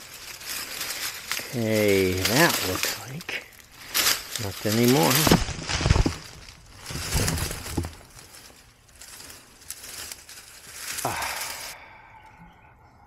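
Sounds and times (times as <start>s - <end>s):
dry leaves and twigs crunching: 0.0s - 11.9s.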